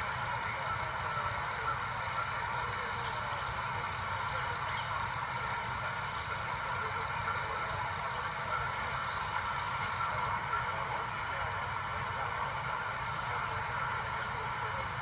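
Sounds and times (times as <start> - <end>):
faint constant tones: 0.0 - 15.0
steady hiss: 0.0 - 15.0.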